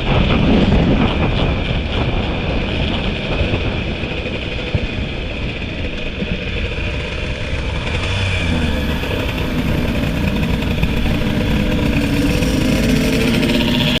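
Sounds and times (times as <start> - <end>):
two-stroke motorcycle engine: 0.0 - 14.0
wind and road noise: 0.0 - 14.0.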